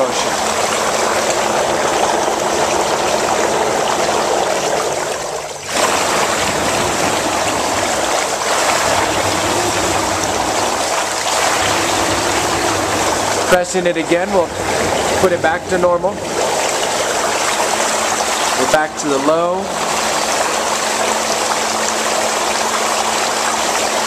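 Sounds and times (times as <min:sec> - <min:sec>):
whirlpool tub bubbling water: 0:00.0 - 0:24.0.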